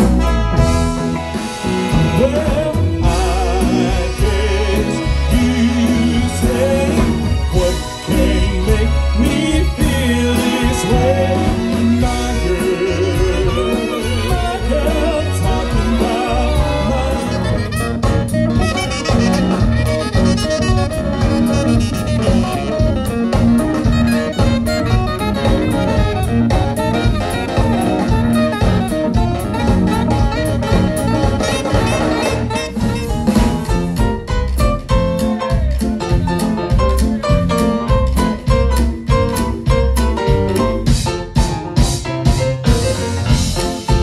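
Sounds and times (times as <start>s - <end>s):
drumbeat: 0.0s - 44.0s
swing big band playing: 0.0s - 44.0s.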